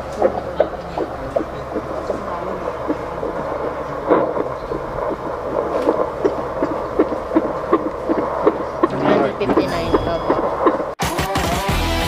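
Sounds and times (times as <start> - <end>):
fetal heartbeat through doppler: 0.0 - 11.0
steady low hum: 0.0 - 11.0.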